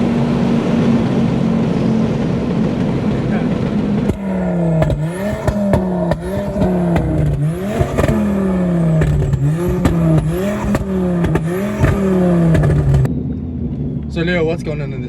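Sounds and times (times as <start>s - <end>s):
exhaust clicks and crackles: 0.0s - 14.2s
car engine revving: 0.0s - 15.0s.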